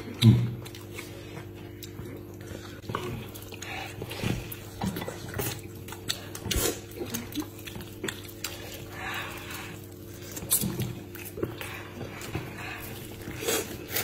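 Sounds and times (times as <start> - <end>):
steady low hum: 0.0 - 14.0
wet chewing on meat: 0.0 - 14.0.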